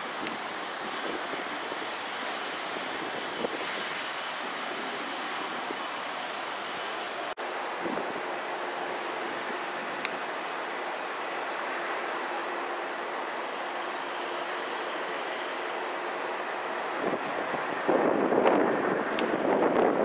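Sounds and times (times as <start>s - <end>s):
distant jet engine noise: 0.0s - 20.0s.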